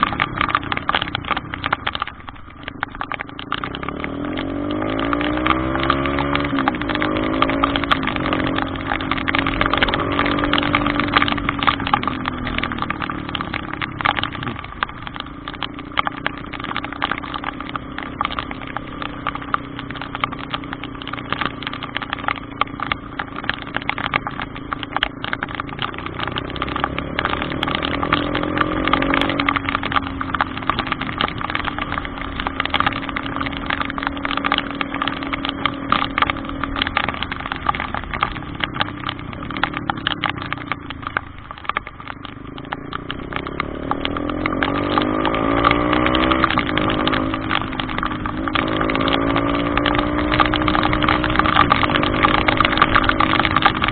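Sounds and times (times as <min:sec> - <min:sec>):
heavy rain: 0:00.0 - 0:53.9
vehicle engine revving: 0:03.5 - 0:24.4, 0:25.2 - 0:40.8, 0:42.2 - 0:53.9.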